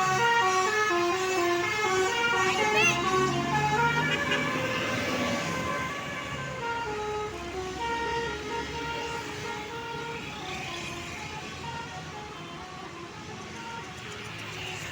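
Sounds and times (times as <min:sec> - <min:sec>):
low rumble of bus: 0:00.0 - 0:14.9.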